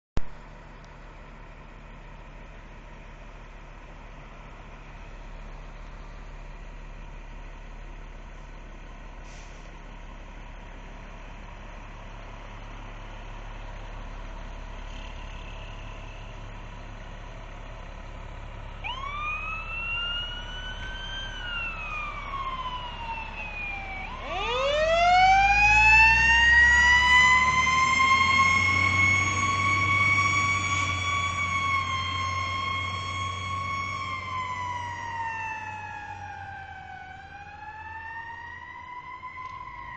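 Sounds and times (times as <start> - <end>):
heavy truck engine rumble: 0.2 - 39.9
emergency vehicle sirens: 2.8 - 39.9.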